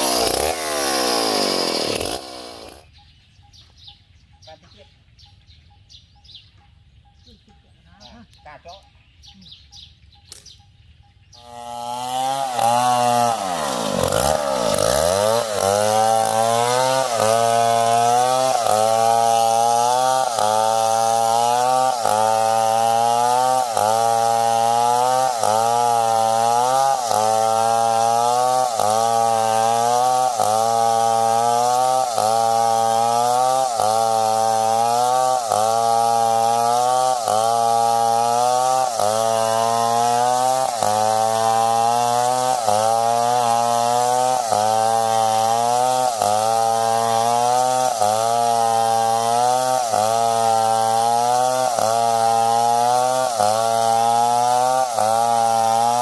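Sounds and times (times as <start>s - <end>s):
chainsaw sawing wood: 0.0s - 2.9s, 11.4s - 56.0s.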